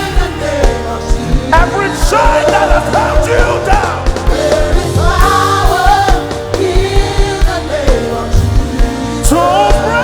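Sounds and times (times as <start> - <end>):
band playing held chords: 0.0 - 10.0
steady low drum beat: 0.0 - 10.0.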